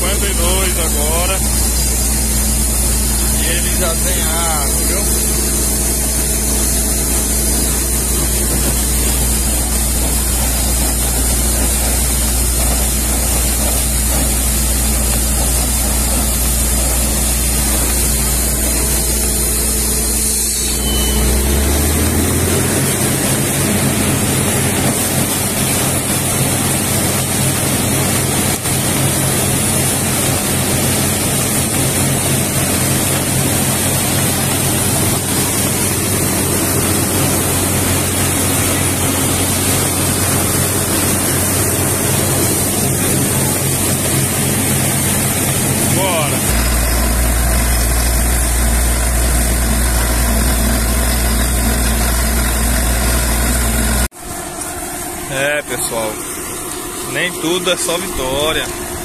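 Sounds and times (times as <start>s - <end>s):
drilling rig engine hum: 0.0s - 59.0s
muddy water gushing spray: 0.0s - 59.0s.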